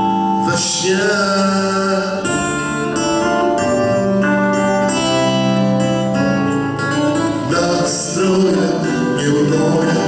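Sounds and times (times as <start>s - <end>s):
acoustic guitar: 0.0s - 10.0s
keyboard chords: 0.0s - 10.0s.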